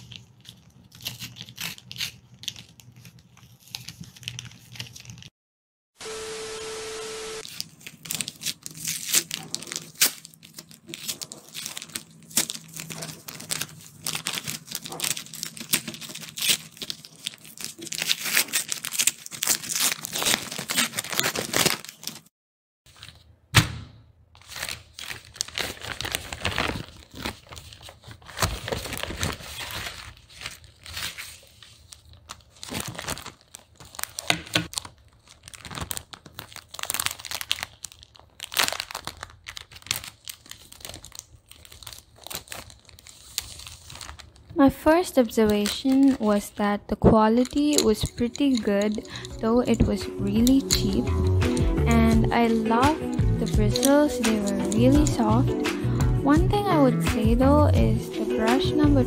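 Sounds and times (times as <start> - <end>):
paper crinkling: 0.0 - 5.3, 7.4 - 22.3, 24.4 - 56.0
paper envelope tearing: 0.0 - 5.3, 7.4 - 22.3, 24.4 - 44.6, 47.5 - 55.3
plastic sleeve crinkling: 0.0 - 5.3, 7.4 - 22.3, 24.4 - 56.0.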